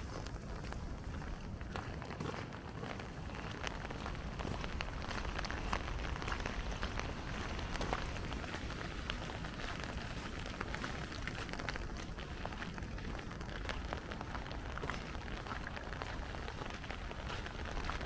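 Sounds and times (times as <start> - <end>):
raindrops ticking: 0.0 - 18.0
rain hiss: 3.1 - 18.0.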